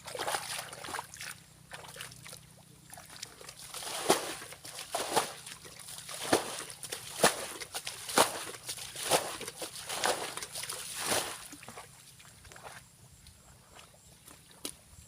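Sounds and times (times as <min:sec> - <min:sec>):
muddy water sloshing and splashing: 0:00.0 - 0:15.0.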